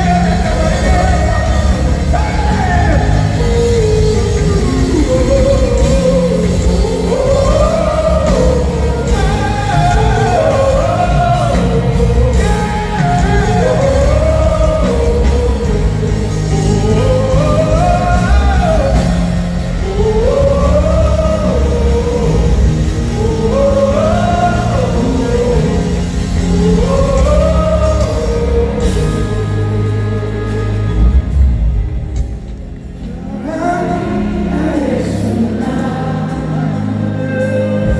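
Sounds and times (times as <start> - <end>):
person singing gospel phrase: 0.0 - 31.4
band with heavy bass: 0.0 - 37.9.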